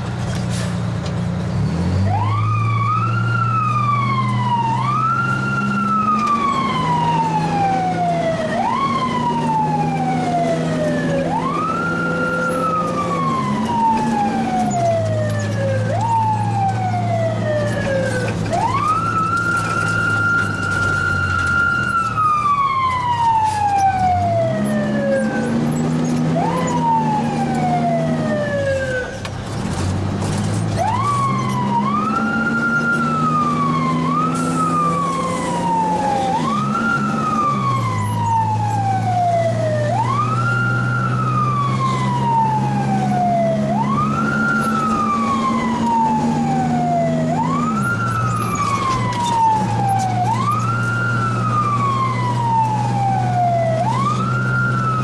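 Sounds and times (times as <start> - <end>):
diesel engine changing gear: 0.0 - 55.0
mechanical siren wailing: 1.7 - 29.4, 30.5 - 55.0.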